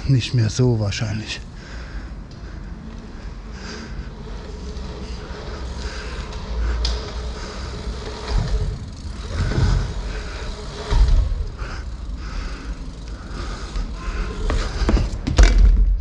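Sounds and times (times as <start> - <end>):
bike tyres rumbling: 0.0 - 16.0.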